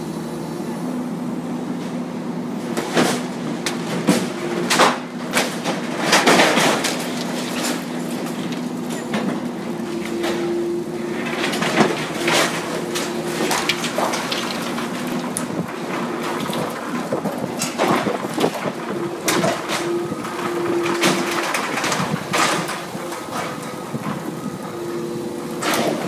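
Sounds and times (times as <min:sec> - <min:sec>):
excavator whine: 0:00.0 - 0:26.0
metal clanging and crunching: 0:02.7 - 0:26.0.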